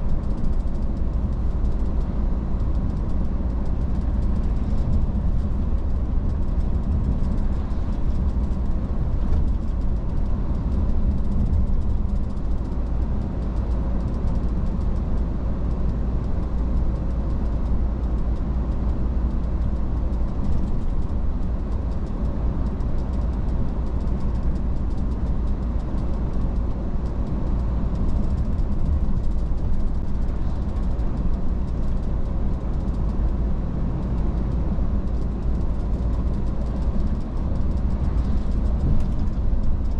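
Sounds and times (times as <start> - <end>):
low diesel drone: 0.0 - 39.9
road and tyre noise: 0.0 - 39.9.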